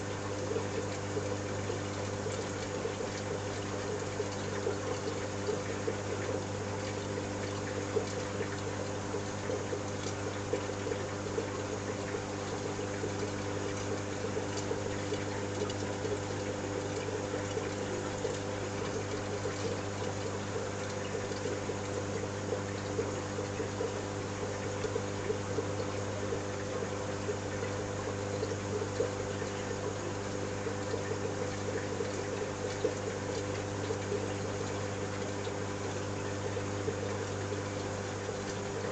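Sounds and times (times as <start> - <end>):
pump hum: 0.0 - 38.9
water trickling: 0.0 - 38.9.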